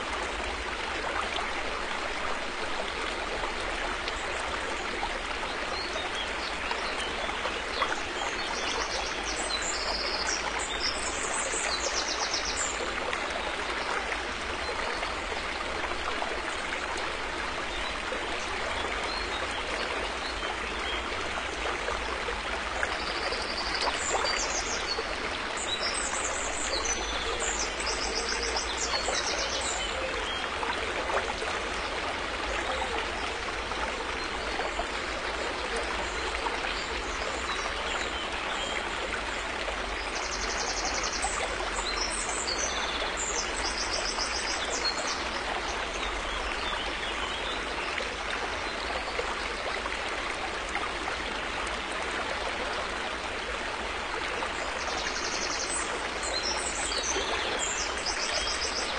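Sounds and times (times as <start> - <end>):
river water flowing over stones: 0.0 - 58.9.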